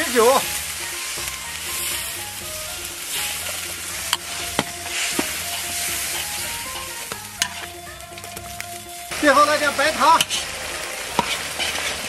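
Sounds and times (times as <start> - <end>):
liquid sizzling in a wok: 0.0 - 12.0
metal spatula knocking wok: 0.0 - 12.0.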